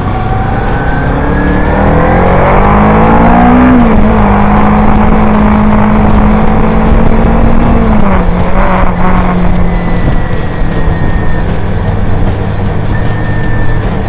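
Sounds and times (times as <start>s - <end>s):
motorcycle engine cruising: 0.0s - 14.0s
wind and road noise: 0.0s - 14.0s.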